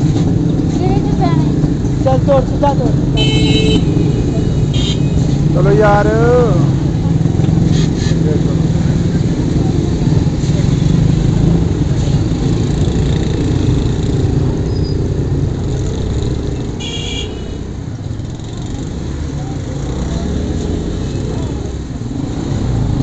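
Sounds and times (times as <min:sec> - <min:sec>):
motorcycle engine running: 0:00.0 - 0:23.0
street traffic: 0:00.0 - 0:23.0.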